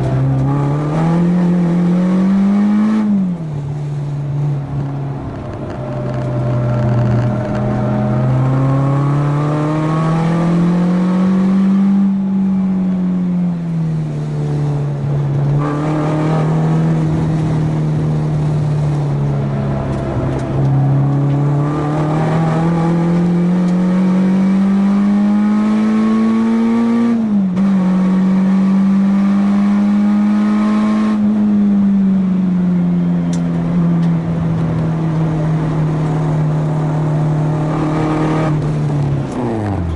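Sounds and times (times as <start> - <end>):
race car engine accelerating: 0.0 - 4.0, 4.6 - 32.1, 33.1 - 39.9.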